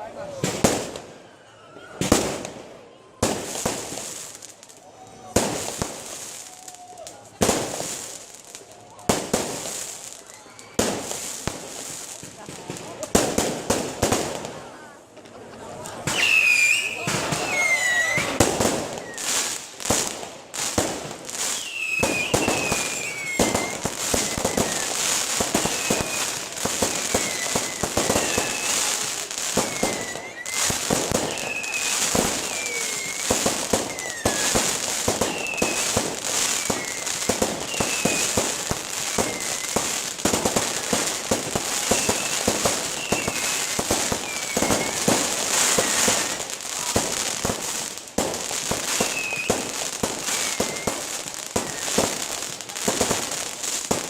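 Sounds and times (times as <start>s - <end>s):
falling whistles of fireworks: 0.0s - 54.0s
fireworks bursting and crackling: 0.0s - 54.0s.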